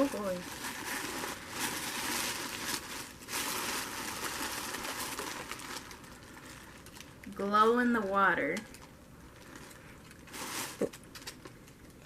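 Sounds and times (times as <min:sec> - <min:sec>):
packaging rustling and crinkling: 0:00.0 - 0:07.2, 0:08.7 - 0:12.0.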